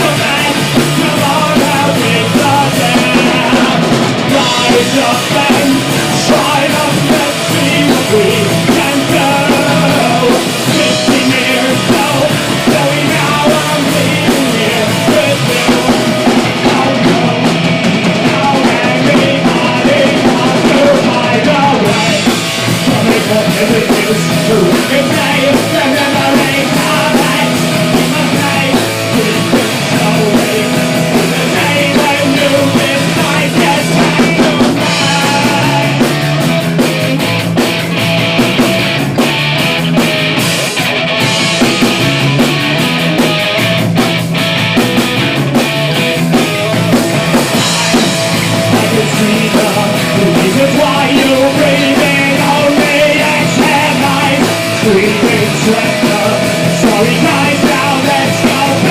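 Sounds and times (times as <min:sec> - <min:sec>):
punk rock band playing live: 0:00.0 - 0:58.9.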